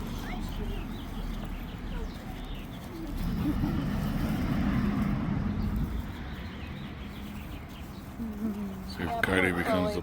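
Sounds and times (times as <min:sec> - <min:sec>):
motor vehicle passing by: 0:00.0 - 0:09.0.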